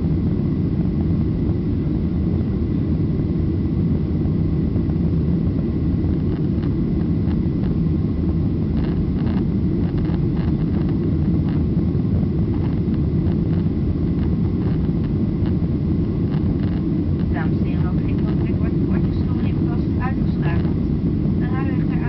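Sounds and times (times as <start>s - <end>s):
faint steady whine: 0.0s - 22.0s
jet engine cabin rumble: 0.0s - 22.0s.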